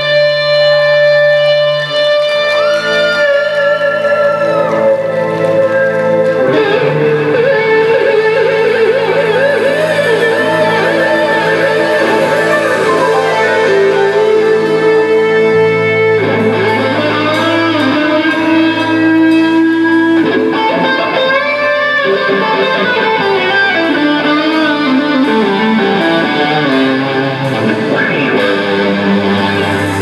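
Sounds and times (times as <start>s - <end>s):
electric guitar lead: 0.0s - 30.0s
live blues band: 0.0s - 30.0s.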